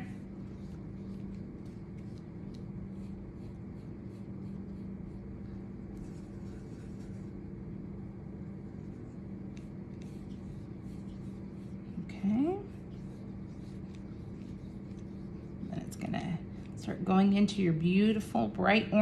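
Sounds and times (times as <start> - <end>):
paintbrush scrubbing on paper: 0.0 - 7.6, 8.5 - 17.8
steady low hum: 0.0 - 19.0.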